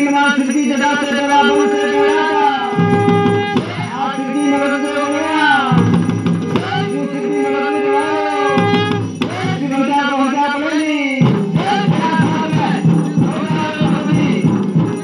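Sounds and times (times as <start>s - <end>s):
hand percussion: 0.0s - 15.0s
man singing drawn-out lines: 0.0s - 15.0s.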